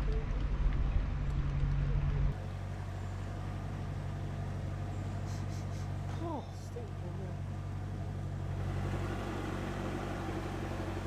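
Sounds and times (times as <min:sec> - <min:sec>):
boat diesel engine drone: 0:00.0 - 0:11.0.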